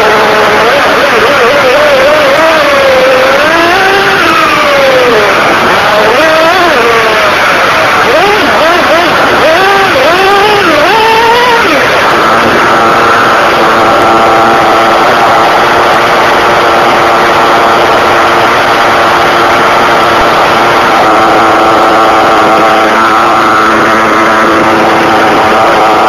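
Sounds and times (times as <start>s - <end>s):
small nitro engine running: 0.0s - 26.0s.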